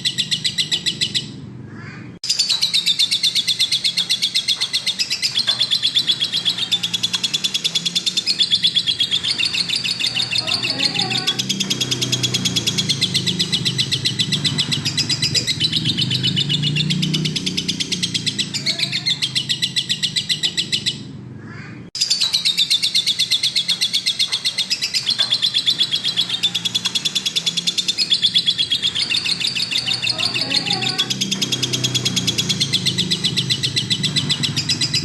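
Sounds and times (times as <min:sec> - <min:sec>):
lovebird chattering trill: 0:00.0 - 0:01.3, 0:02.2 - 0:21.1, 0:22.0 - 0:35.0.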